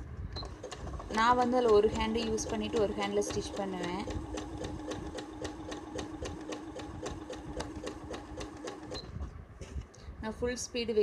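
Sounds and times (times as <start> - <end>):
sewing machine motor hum: 0.4 - 9.3.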